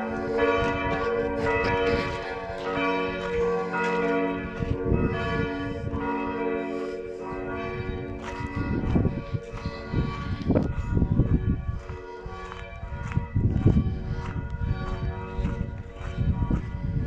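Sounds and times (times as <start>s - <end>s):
church bells pealing: 0.0s - 17.0s.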